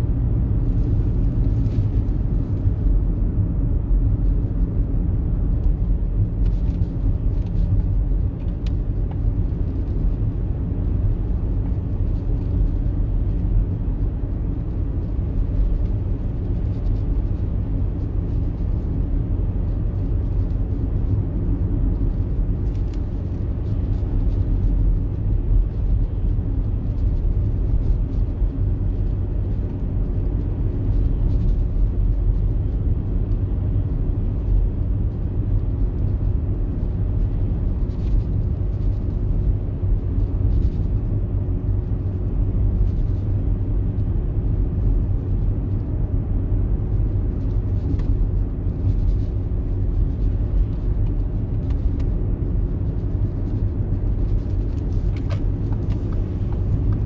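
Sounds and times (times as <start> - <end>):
low engine drone: 0.0 - 57.0
road and tyre rumble: 0.0 - 57.0.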